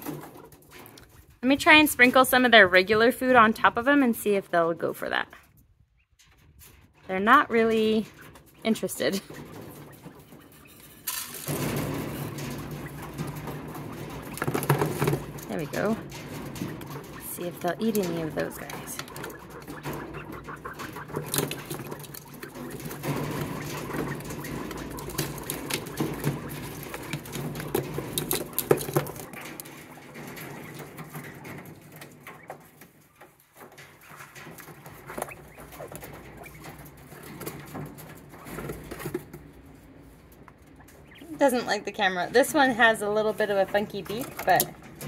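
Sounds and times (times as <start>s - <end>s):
birds pecking on plastic dish: 0.0s - 4.8s, 5.5s - 45.0s.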